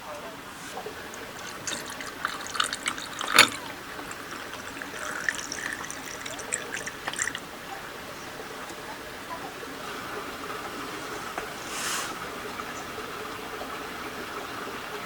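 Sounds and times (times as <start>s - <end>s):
liquid trickling: 0.4s - 12.8s.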